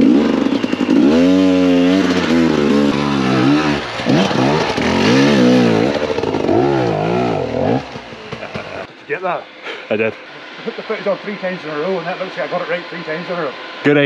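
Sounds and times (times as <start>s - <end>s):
dirt bike engine revving: 0.0s - 8.9s, 10.2s - 14.0s.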